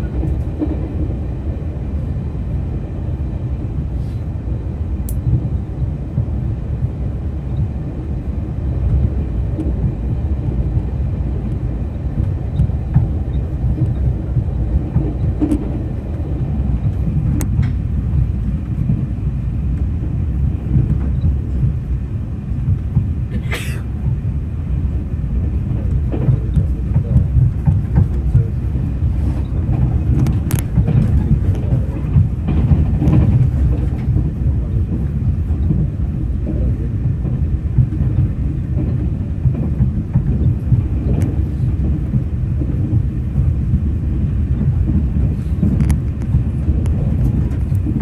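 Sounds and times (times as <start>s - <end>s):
train rumbling in motion: 0.0s - 48.0s.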